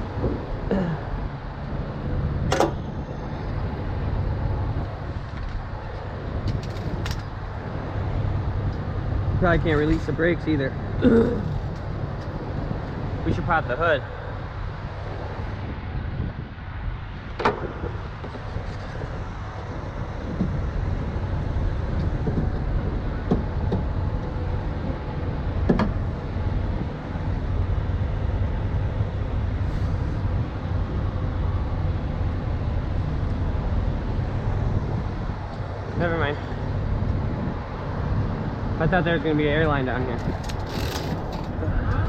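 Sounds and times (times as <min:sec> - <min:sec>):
diesel truck engine rumbling: 0:00.0 - 0:42.0.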